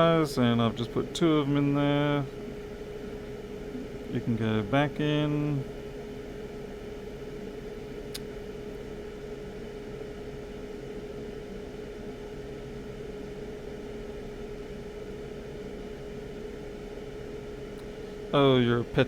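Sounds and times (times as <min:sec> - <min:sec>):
constant mid-pitched tone: 0:00.0 - 0:19.0
fan-like equipment hum: 0:00.0 - 0:19.0.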